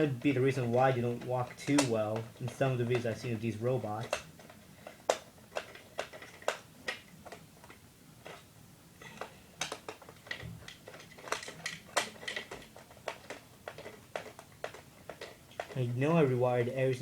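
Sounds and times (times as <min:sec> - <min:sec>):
toy parts clicking and tapping: 0:00.0 - 0:08.5, 0:09.1 - 0:17.0.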